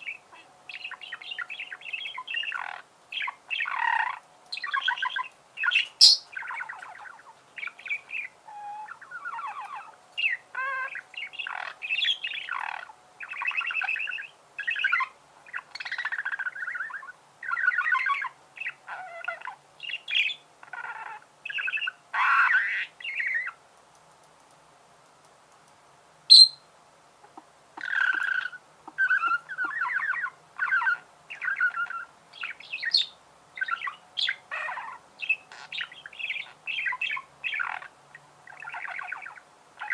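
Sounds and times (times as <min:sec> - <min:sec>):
budgerigars chattering: 0:00.0 - 0:23.6, 0:27.8 - 0:39.9.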